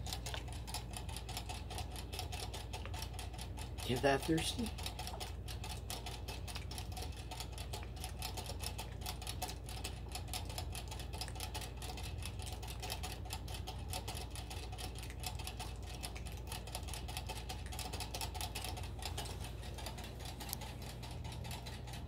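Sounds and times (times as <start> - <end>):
rabbit licking metal sipper tube: 0.0 - 22.0.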